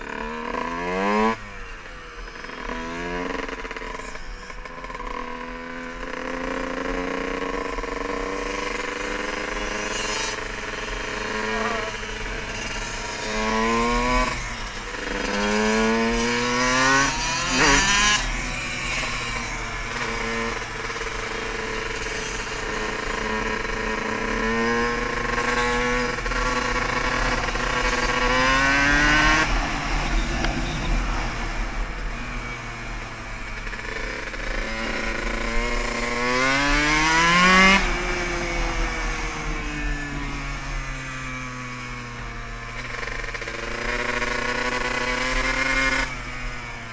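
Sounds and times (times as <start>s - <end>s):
dirt bike engine accelerating: 0.0s - 46.9s.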